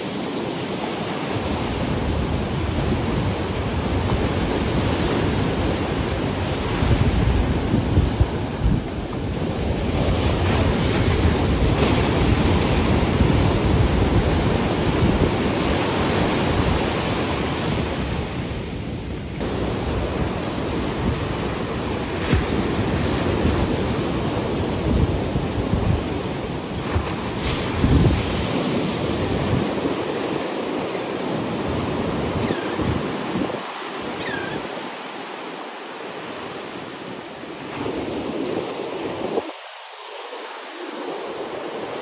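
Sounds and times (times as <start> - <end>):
wind rumbling on microphone: 0.0 - 35.0
ocean surf breaking: 0.0 - 42.0.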